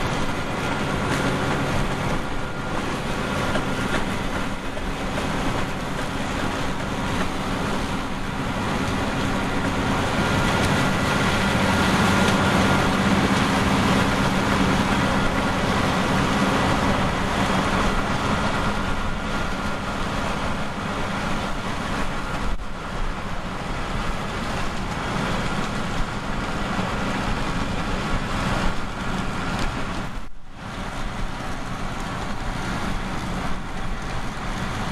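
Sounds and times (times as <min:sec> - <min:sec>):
farm machinery diesel engine: 0:00.0 - 0:34.9.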